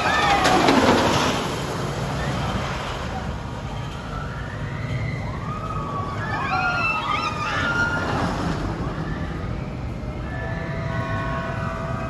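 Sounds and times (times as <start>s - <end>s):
roller coaster riders screaming: 0.0s - 12.0s.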